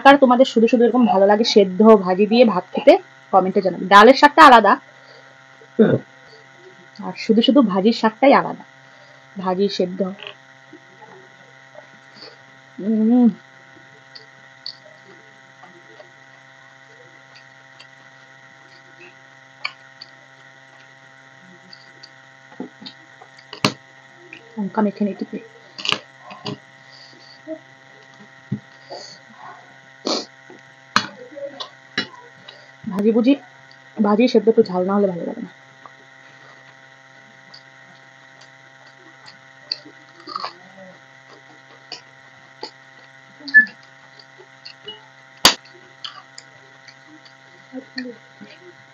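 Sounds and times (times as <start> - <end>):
background hum: 0.0 - 48.9.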